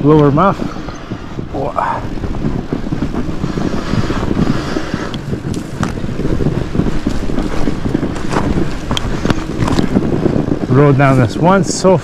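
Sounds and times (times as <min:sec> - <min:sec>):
bike tyres rolling on snow: 0:00.0 - 0:12.0
wind buffeting microphone: 0:00.0 - 0:12.0.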